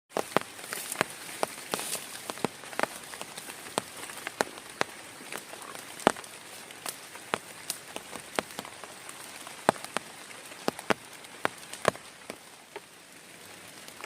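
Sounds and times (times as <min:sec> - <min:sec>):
heavy rain falling: 0:00.1 - 0:14.0
large raindrops striking a surface: 0:00.1 - 0:14.0.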